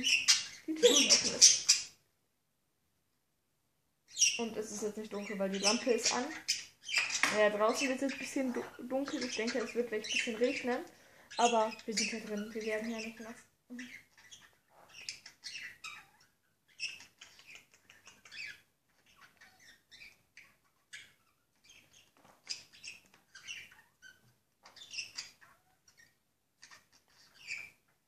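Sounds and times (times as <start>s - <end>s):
budgerigars chirping: 0.0s - 2.0s, 4.1s - 27.8s.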